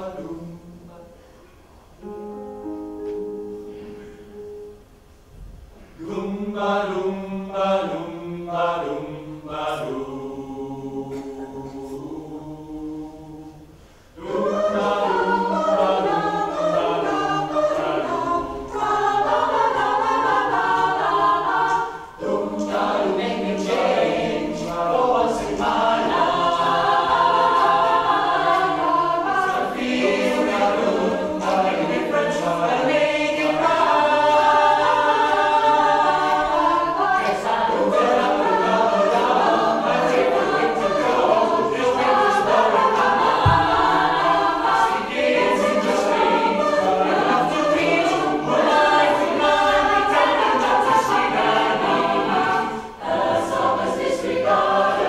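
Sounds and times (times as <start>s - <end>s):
mixed choir singing: 0.0s - 2.6s, 5.9s - 55.0s.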